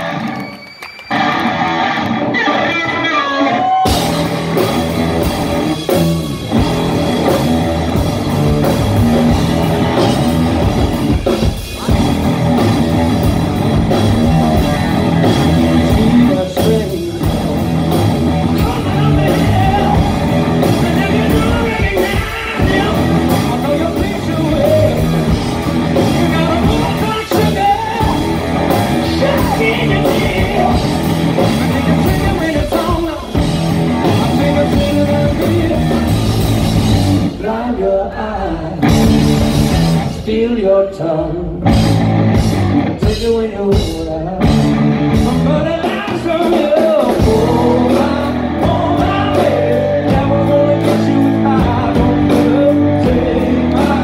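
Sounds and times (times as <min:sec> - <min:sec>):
electric guitar: 0:00.0 - 0:54.0
live rock band with drums: 0:00.0 - 0:54.0.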